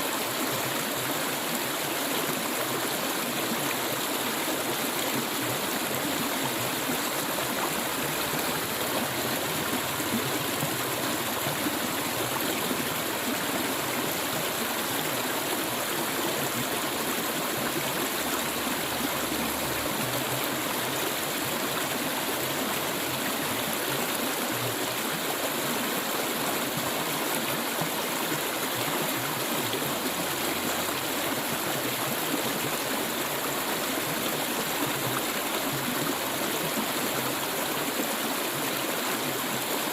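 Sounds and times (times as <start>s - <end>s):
stream water burbling over stones: 0.0s - 39.9s.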